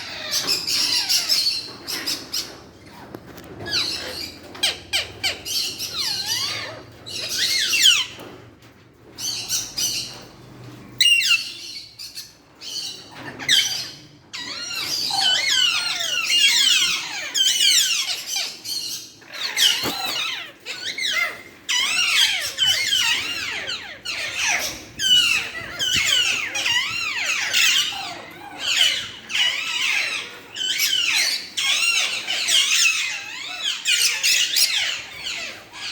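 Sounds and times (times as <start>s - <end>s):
parrots chirping and squawking: 0.0s - 35.9s.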